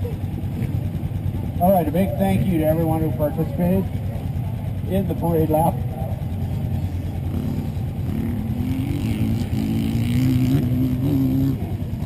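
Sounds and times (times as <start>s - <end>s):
dirt bike engine revving: 1.6s - 12.0s.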